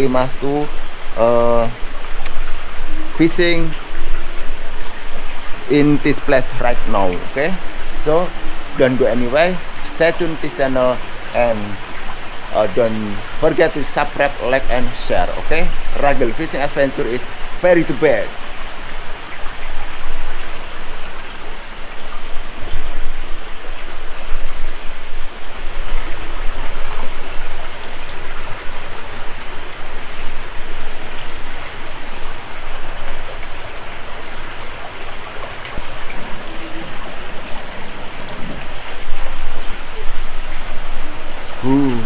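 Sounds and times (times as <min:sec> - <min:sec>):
creek water rushing over rocks: 0:00.0 - 0:42.0.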